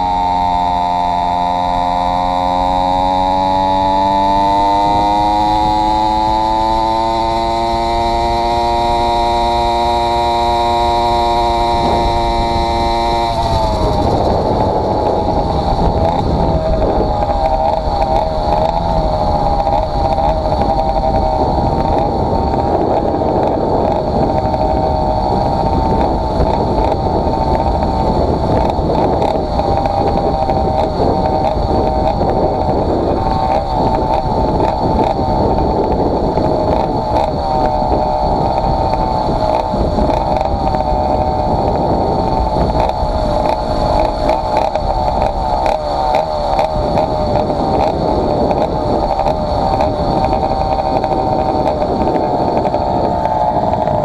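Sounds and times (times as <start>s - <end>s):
two-stroke engine running: 0.0s - 54.0s
wind rumble on microphone: 0.0s - 54.0s.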